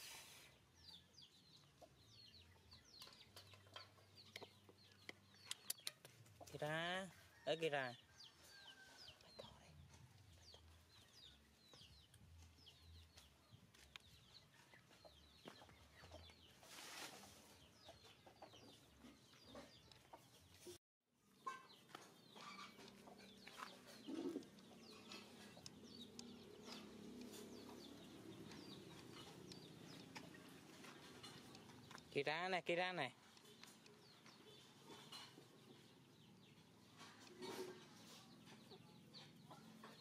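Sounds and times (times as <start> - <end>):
chickens clucking and peeping: 0.5 - 40.0.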